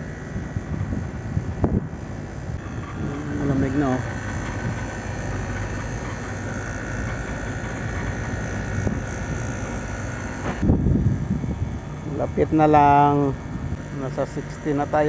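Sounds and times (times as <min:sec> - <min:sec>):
air conditioner unit humming: 0:00.0 - 0:15.0
steady high tone: 0:00.0 - 0:15.0.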